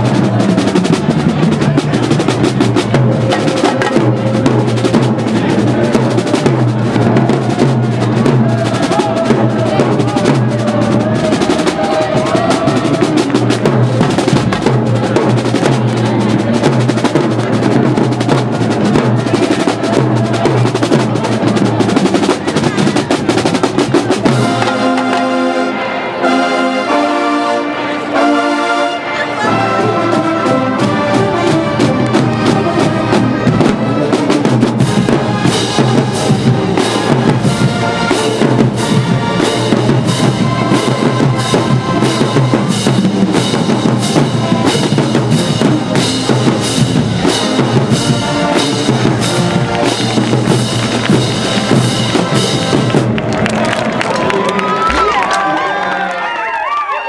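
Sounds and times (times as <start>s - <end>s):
snare and bass drums: 0.0s - 25.4s, 30.1s - 54.0s
loud brass chords: 0.0s - 55.9s
brass band playing: 0.0s - 56.4s.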